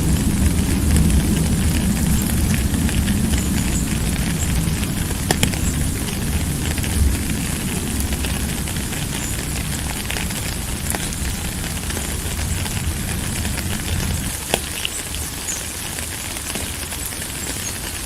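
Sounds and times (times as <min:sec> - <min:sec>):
raindrop ticks: 0:00.0 - 0:18.0
steady rain hiss: 0:00.0 - 0:18.0.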